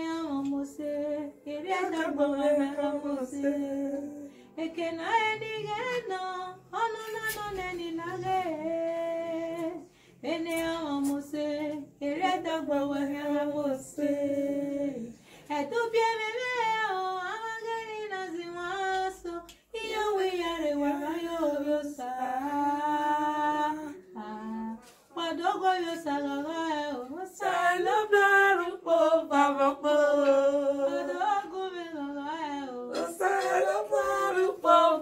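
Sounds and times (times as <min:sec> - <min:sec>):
woman singing unaccompanied: 0:00.0 - 0:35.0.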